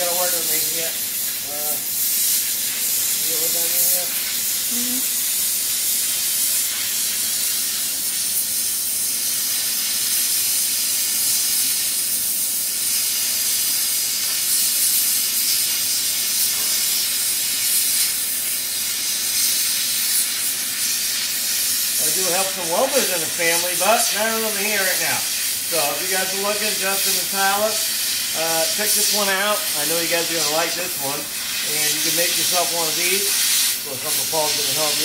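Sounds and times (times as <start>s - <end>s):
torch flame hissing: 0.0s - 35.0s.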